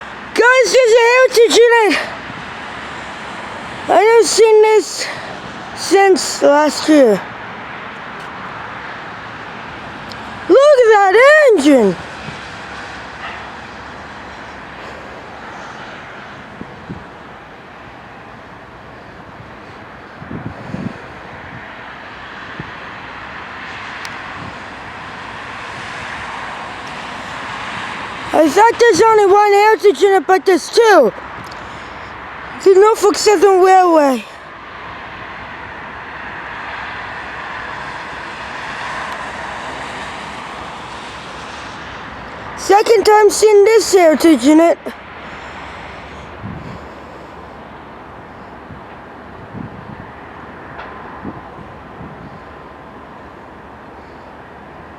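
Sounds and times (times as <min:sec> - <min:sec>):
diesel train passing: 0:00.0 - 0:54.9.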